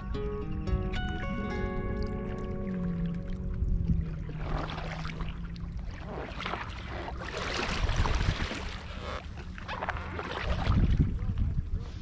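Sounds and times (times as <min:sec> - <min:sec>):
kayak paddle strokes splashing: 0:02.2 - 0:12.0.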